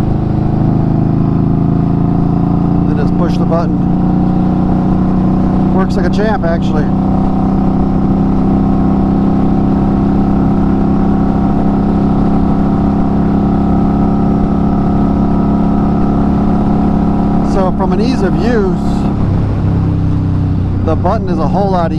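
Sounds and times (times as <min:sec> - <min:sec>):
motorcycle engine cruising: 0:00.0 - 0:21.9.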